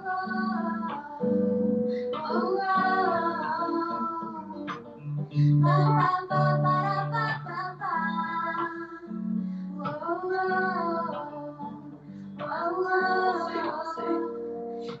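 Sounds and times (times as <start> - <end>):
guitar accompaniment: 0.0 - 15.0
woman singing: 0.0 - 15.0.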